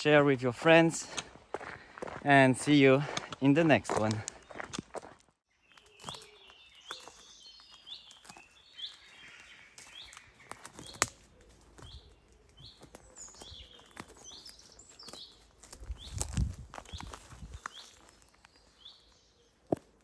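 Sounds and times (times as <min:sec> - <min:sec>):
small birds chirping: 0:00.7 - 0:20.0.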